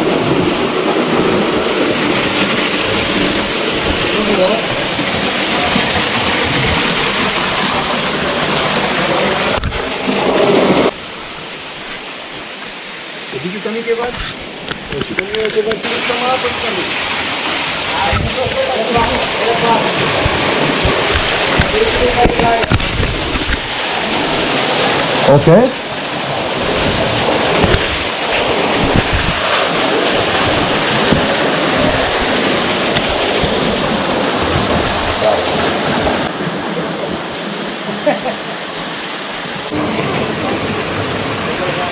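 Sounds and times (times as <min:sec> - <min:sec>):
rushing water of a stream: 0:00.0 - 0:41.9.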